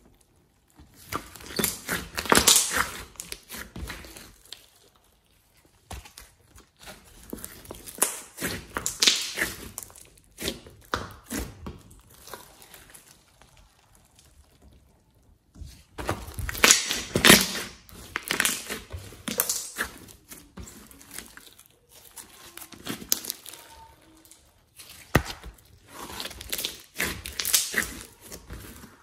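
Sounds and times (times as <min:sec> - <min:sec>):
slime crackling and popping: 0:00.0 - 0:29.0.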